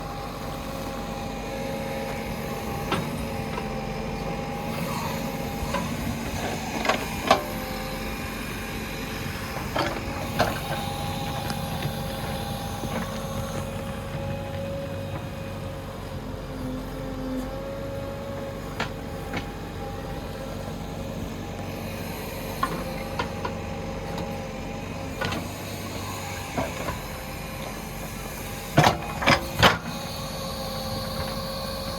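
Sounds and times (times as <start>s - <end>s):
backhoe diesel engine whining: 0.0s - 31.9s.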